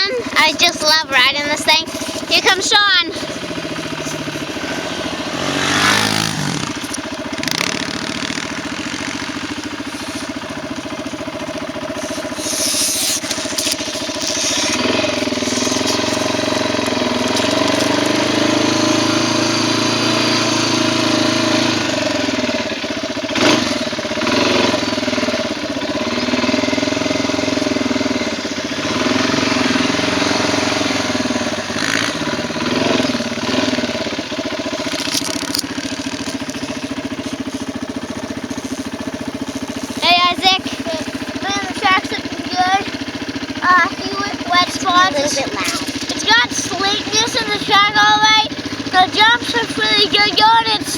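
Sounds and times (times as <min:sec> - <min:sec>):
quad engine idling: 0:00.0 - 0:50.9.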